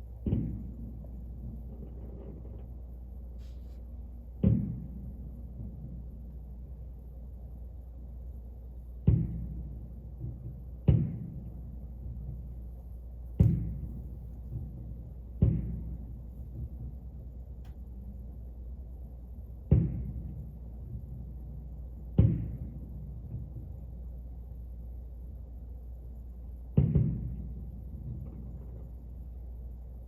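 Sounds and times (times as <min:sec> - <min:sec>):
distant fireworks booming: 0:00.0 - 0:30.0
steady low hum: 0:00.0 - 0:30.0.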